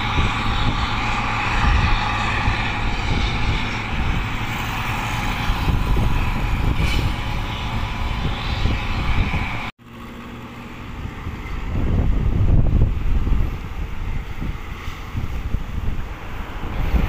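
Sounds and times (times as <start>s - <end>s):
wind rumbling on microphone: 0.0s - 9.7s, 10.4s - 17.0s
road traffic passing: 0.0s - 17.0s.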